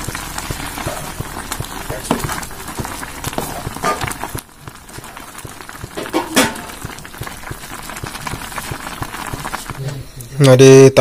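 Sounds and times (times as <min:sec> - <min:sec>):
spatula stirring in pan: 0:00.0 - 0:10.3
water boiling hard: 0:00.0 - 0:11.0.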